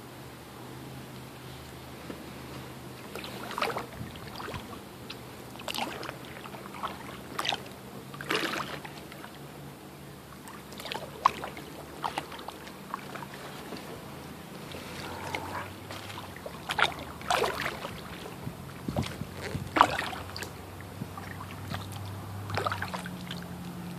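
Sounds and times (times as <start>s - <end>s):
paddle dipping into water: 1.4s - 23.9s
water splashes and drips: 3.0s - 9.5s, 10.2s - 14.0s, 14.7s - 23.9s.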